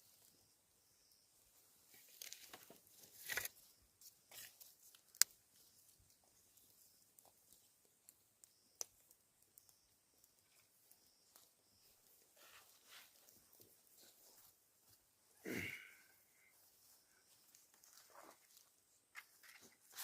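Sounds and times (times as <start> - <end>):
rustling and crinkling: 0.0 - 15.4, 16.3 - 20.0.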